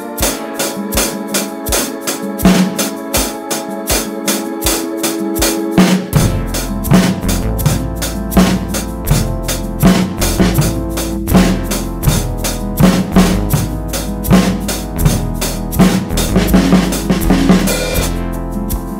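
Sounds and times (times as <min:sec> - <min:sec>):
snare drum strokes: 0:00.0 - 0:18.2
heavy low beat: 0:00.0 - 0:18.9
music with sustained notes: 0:00.0 - 0:18.9.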